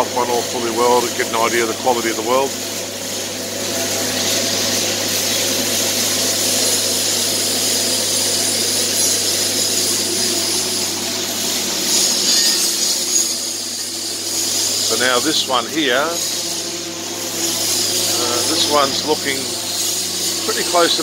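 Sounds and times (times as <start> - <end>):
power tool hissing and humming: 0.0 - 21.0.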